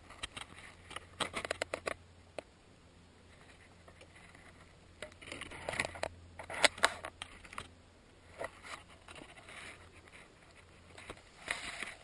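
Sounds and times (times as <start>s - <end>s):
crackling handling noise: 0.0s - 2.6s, 3.2s - 12.0s.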